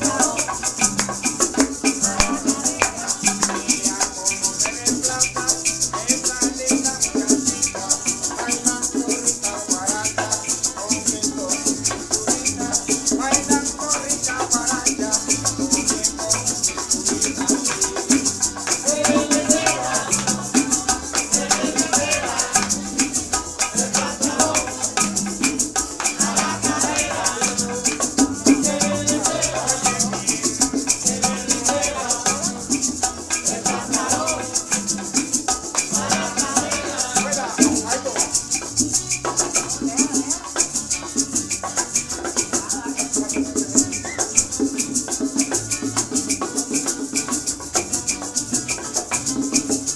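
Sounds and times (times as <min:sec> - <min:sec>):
maracas shaking: 0:00.0 - 0:49.9.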